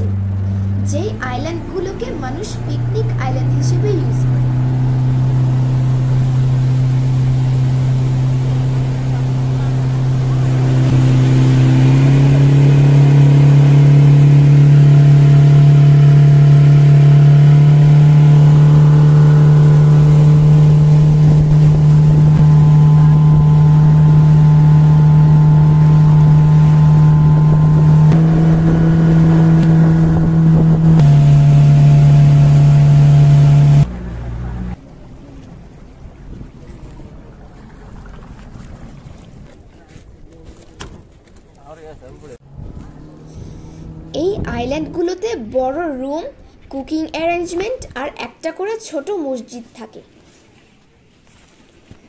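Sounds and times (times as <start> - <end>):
motorboat engine drone: 0.0 - 40.3, 42.4 - 46.7.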